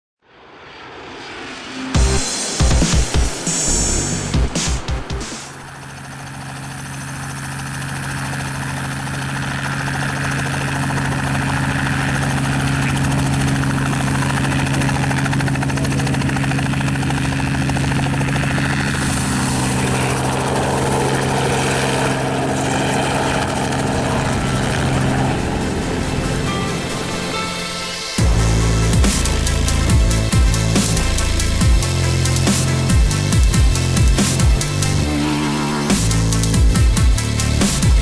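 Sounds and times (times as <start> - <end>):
helicopter engine and rotor hum: 1.6 - 38.0.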